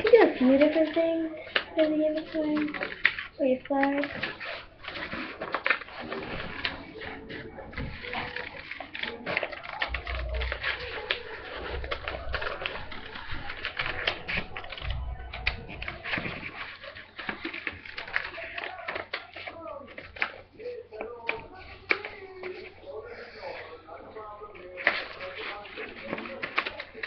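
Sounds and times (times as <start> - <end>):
scissors snipping paper: 0.0 - 22.8, 24.6 - 27.0
paper rustling: 0.0 - 27.0.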